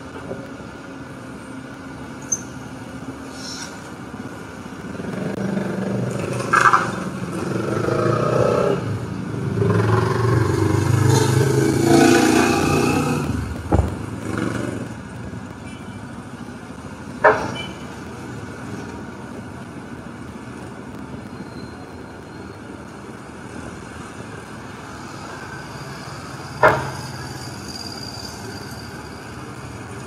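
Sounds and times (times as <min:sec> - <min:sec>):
excavator engine rumble: 0:00.0 - 0:30.0
street noise: 0:00.0 - 0:30.0.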